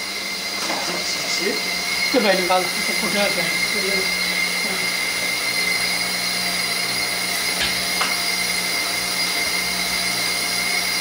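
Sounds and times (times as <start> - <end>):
mechanical hum with high whine: 0.0 - 11.0.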